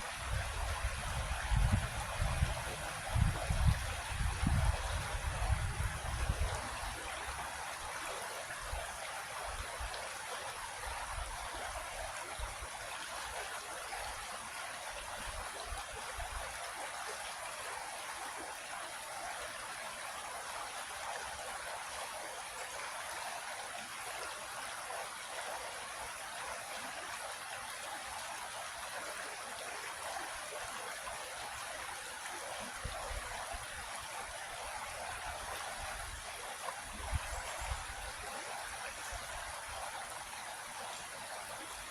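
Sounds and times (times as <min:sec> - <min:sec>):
creek flowing over rocks: 0:00.0 - 0:41.9.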